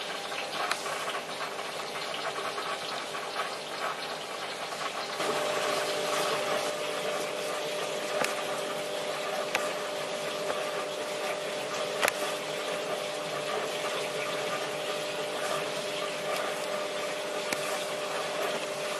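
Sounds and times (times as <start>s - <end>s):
pump hum: 0.0s - 18.9s
water flowing and trickling: 0.0s - 18.9s.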